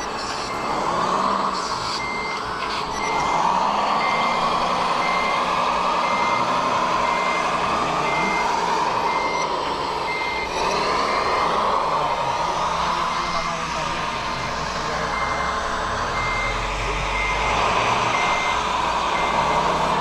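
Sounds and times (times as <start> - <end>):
reversing beeper: 0.0 - 20.0
toy truck drive whine: 0.0 - 20.0.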